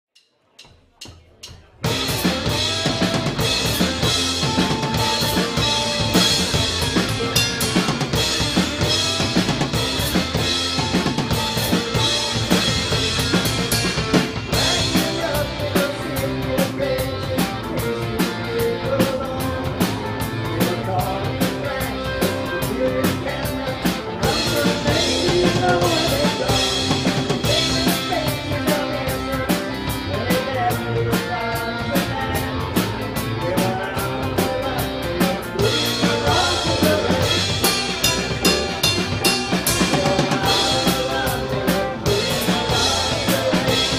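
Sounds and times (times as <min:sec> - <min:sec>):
drum kit: 0:00.2 - 0:43.9
rock band playing live: 0:01.0 - 0:43.9.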